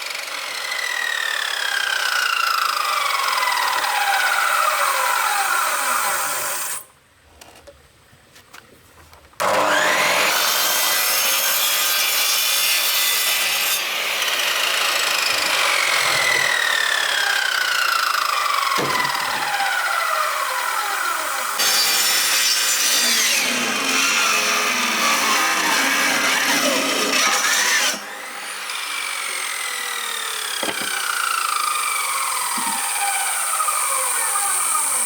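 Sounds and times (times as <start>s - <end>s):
power saw cutting bamboo: 0.0s - 6.9s, 9.4s - 35.0s.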